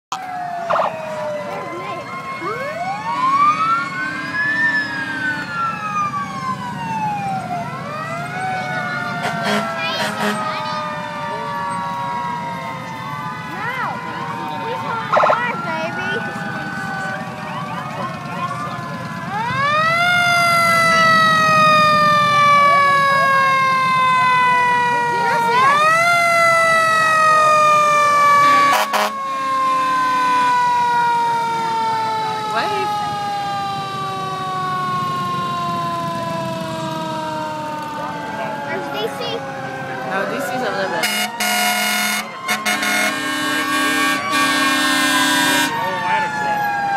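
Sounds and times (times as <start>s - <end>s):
fire truck sirens wailing: 0.1s - 46.9s.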